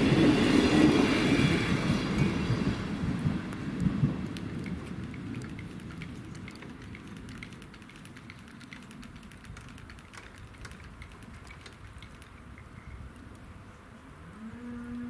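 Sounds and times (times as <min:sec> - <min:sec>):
train rumbling: 0:00.0 - 0:12.7.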